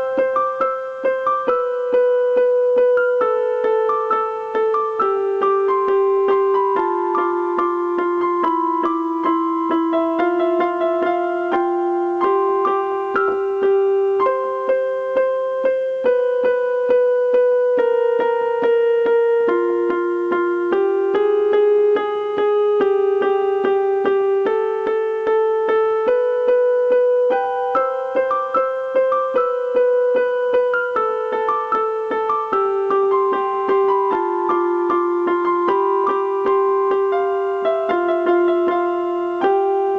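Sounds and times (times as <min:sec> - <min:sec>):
slow gentle piano melody: 0:00.0 - 0:39.9.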